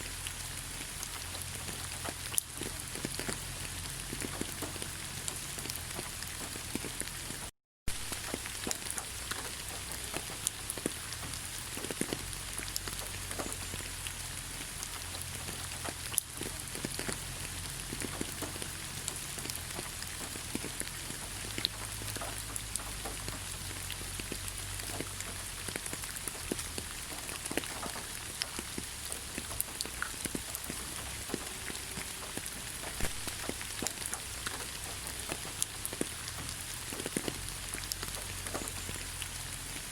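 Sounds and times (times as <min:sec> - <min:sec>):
raindrops ticking: 0:00.0 - 0:39.9
steady rain hiss: 0:00.0 - 0:39.9.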